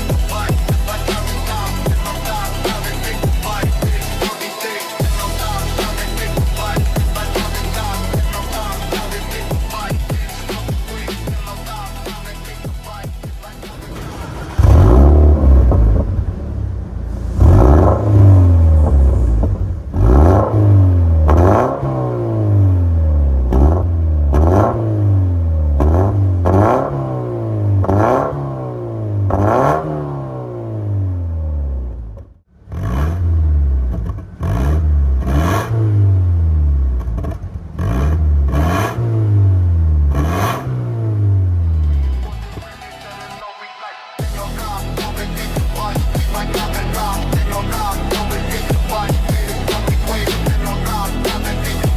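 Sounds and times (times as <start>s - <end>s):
car engine revving: 0.0s - 43.4s, 44.2s - 51.9s.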